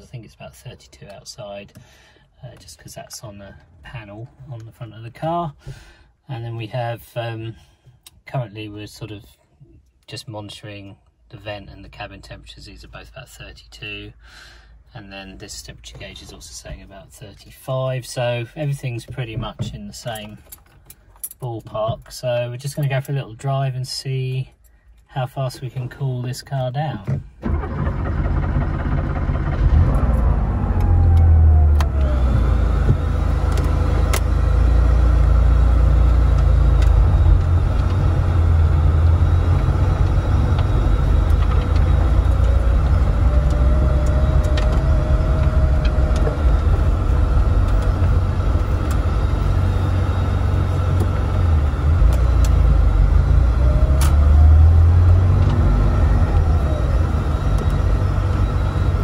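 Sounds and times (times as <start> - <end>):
car engine rumble: 0.0 - 59.0
road noise inside car: 10.2 - 59.0.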